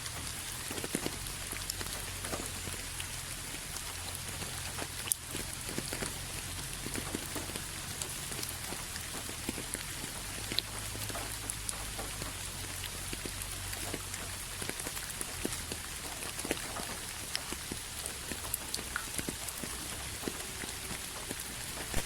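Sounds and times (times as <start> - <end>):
raindrops ticking: 0.0 - 22.0
steady rain falling: 0.0 - 22.0.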